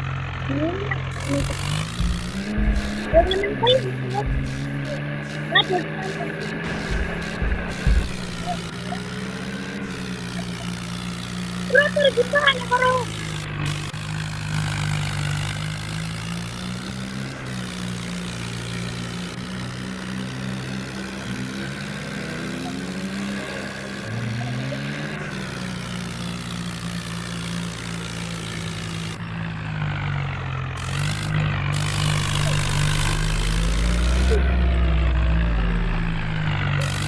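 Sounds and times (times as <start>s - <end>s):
tractor diesel engine revving: 0.0s - 37.0s.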